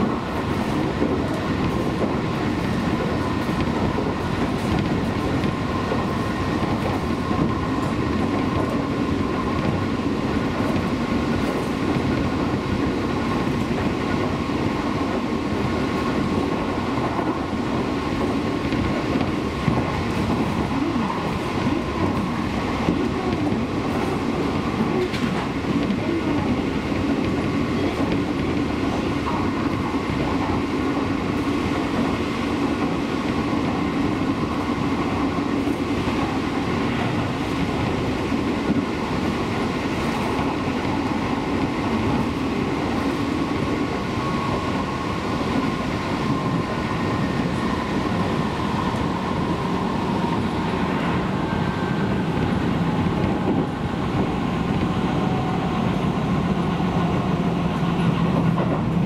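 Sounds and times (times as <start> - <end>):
electric train running on rails: 0.0 - 59.0.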